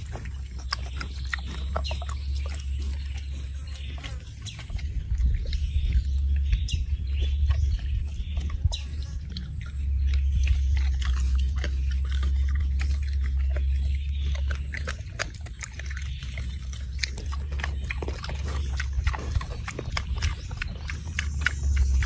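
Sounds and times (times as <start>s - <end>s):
low rumble: 0.0s - 22.0s
pig chewing and crunching: 0.0s - 22.0s.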